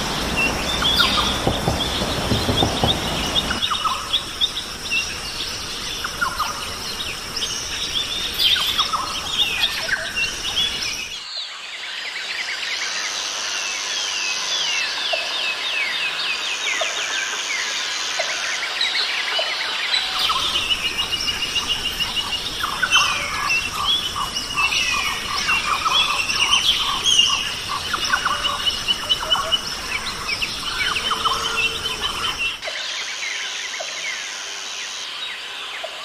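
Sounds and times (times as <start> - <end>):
birds chirping and trilling: 0.0 - 36.0
low steady background noise: 0.0 - 36.0.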